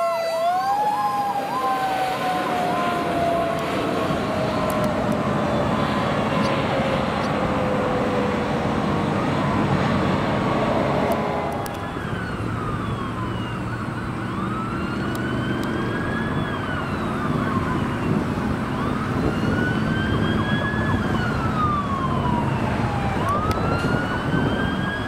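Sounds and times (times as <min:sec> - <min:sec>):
fire truck siren wailing: 0:00.0 - 0:25.0
highway traffic noise: 0:00.0 - 0:25.0.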